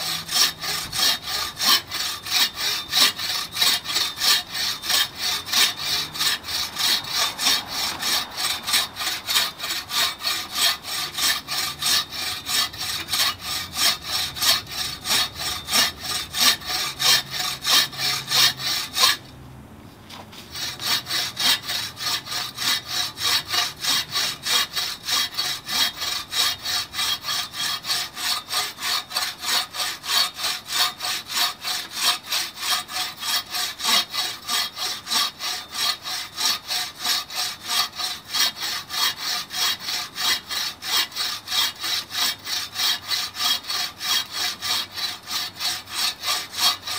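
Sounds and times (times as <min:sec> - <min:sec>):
saw rasping through wood: 0:00.0 - 0:19.3, 0:20.1 - 0:46.9.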